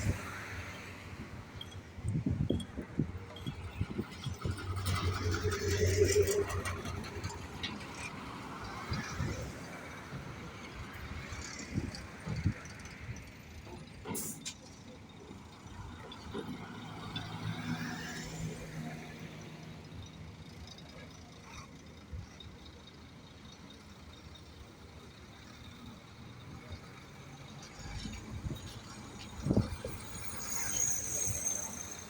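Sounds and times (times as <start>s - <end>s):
construction vehicle engine rumbling: 0.0s - 32.0s.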